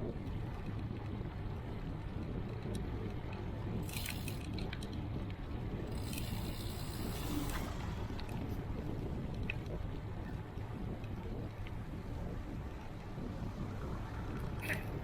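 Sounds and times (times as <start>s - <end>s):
wind and bicycle ride rumble: 0.0s - 15.0s.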